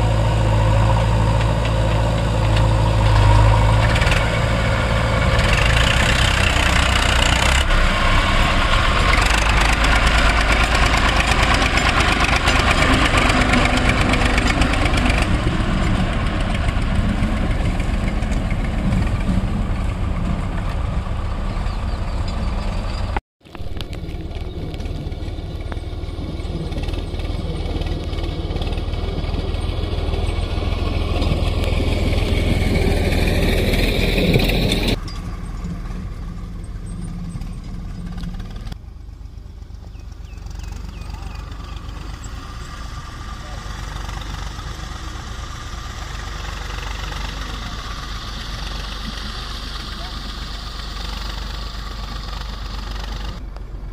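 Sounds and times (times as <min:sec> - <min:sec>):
heavy diesel engine throbbing: 0:00.0 - 0:53.9.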